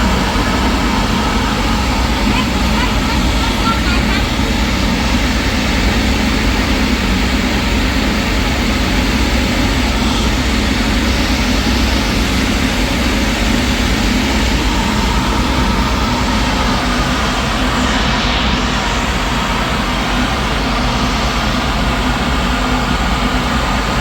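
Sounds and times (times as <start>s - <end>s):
engine low rumble: 0.0s - 24.0s.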